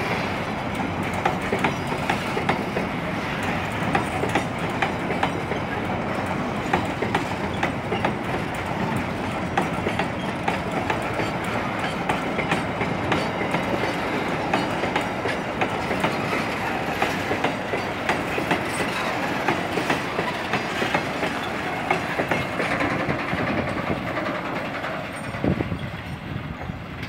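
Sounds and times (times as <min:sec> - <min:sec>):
freight train rumbling past: 0:00.0 - 0:27.0
wheels clacking over rail joints: 0:00.0 - 0:27.0.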